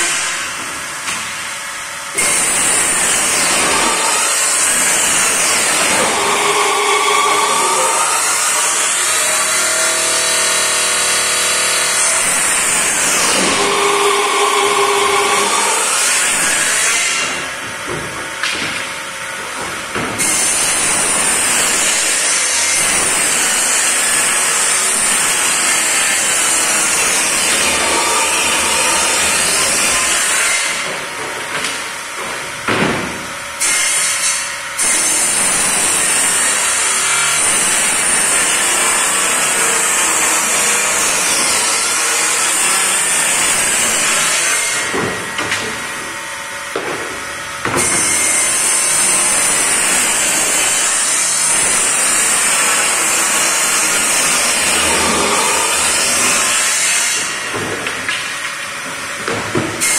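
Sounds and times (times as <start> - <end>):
saw running idle: 0.0 - 17.6, 20.2 - 31.2, 33.5 - 46.4, 47.4 - 57.5
circular saw cutting plywood: 0.0 - 59.9.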